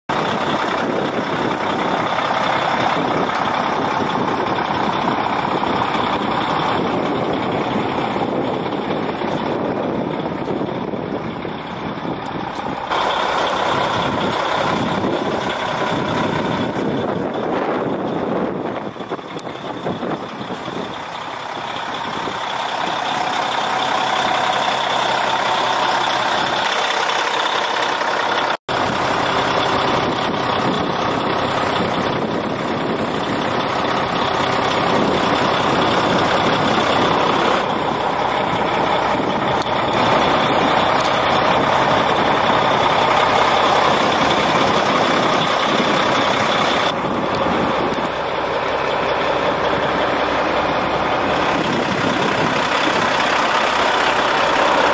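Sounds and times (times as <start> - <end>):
truck diesel engine idling: 0.1 - 54.9.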